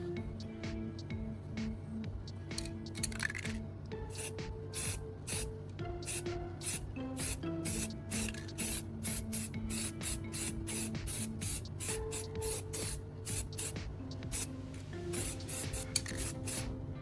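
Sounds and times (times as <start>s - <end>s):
background music: 0.0s - 17.0s
spray paint can hissing: 2.6s - 16.7s.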